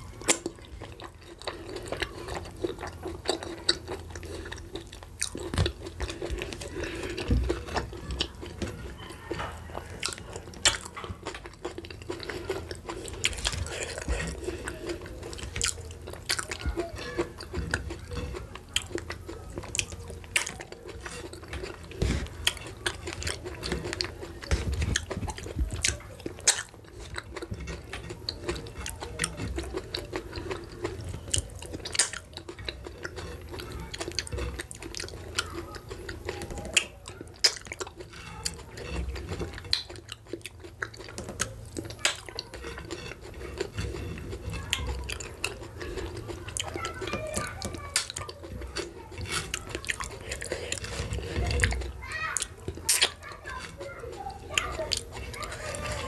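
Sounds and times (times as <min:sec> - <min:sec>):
chewing and lip smacking: 0:00.0 - 0:56.0.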